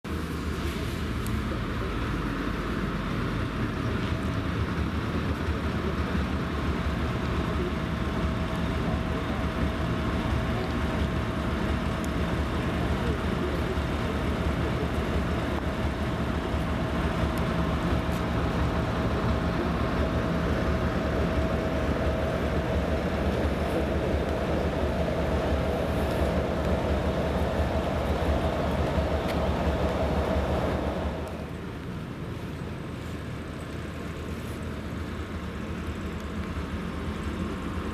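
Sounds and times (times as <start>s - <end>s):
locomotive diesel engines running: 0.0s - 37.9s
wheel and rail noise: 0.0s - 37.9s
steady whine: 0.1s - 37.9s.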